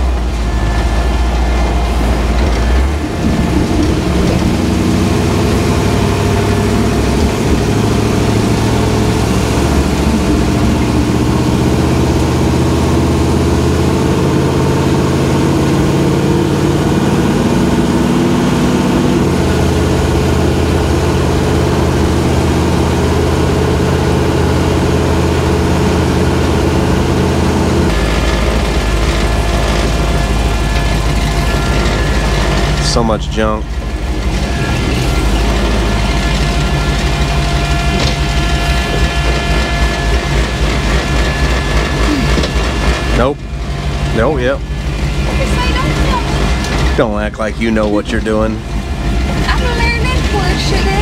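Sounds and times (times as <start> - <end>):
road and wind noise: 0.0 - 51.0
truck engine running: 0.0 - 51.0.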